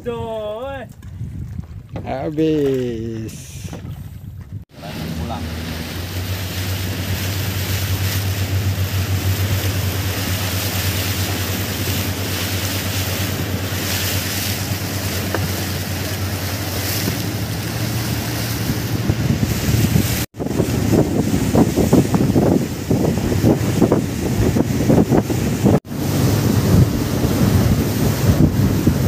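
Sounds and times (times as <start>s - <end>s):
wind buffeting microphone: 0.0s - 29.0s
water rushing past hull: 2.6s - 29.0s
boat engine humming: 4.7s - 29.0s.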